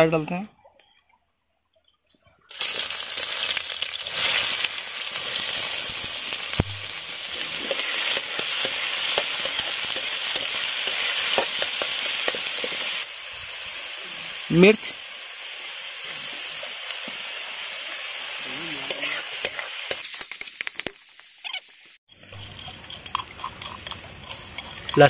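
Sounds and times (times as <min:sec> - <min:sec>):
onions sizzling in hot oil: 0:02.5 - 0:23.1.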